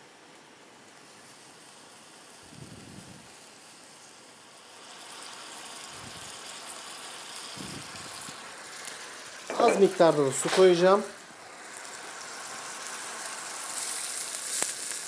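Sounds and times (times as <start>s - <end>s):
oil sizzling in a hot pan: 0.0s - 15.0s.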